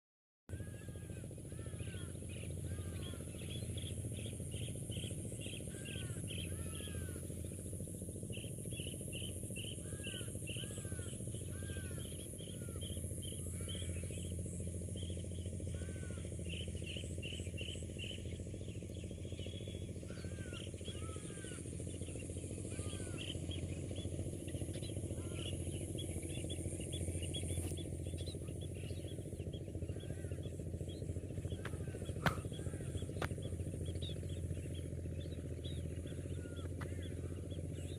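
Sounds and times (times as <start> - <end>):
low background rumble: 0.5 - 37.9
small birds chirping: 0.5 - 37.9.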